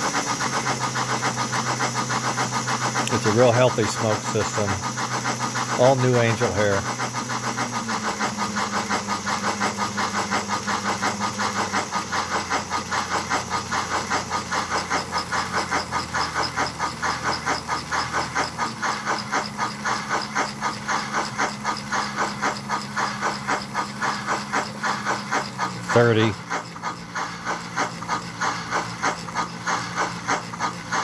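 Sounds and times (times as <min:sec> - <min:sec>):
steam locomotive chuffs: 0:00.0 - 0:31.0
steady low hum: 0:00.7 - 0:31.0.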